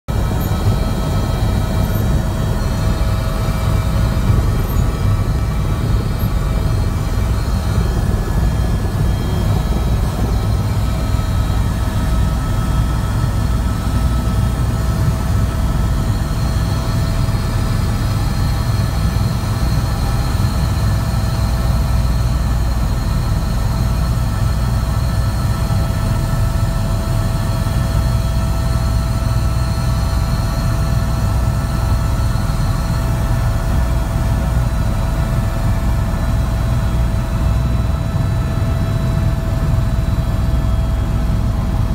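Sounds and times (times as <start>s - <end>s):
helicopter rotor and engine drone: 0.0s - 41.9s
constant whine: 0.1s - 41.9s.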